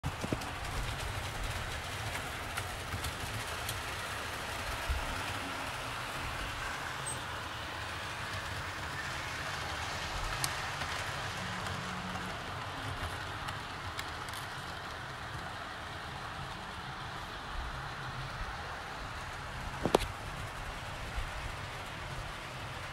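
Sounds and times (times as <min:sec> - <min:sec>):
model train rolling and whirring: 0:00.0 - 0:22.9.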